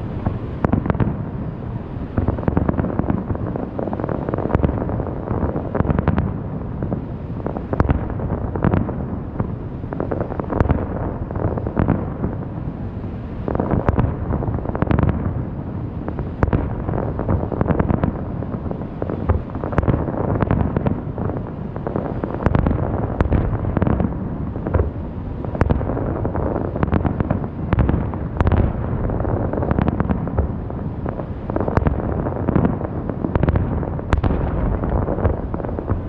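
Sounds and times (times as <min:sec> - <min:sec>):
deep continuous rumble: 0:00.0 - 0:36.0.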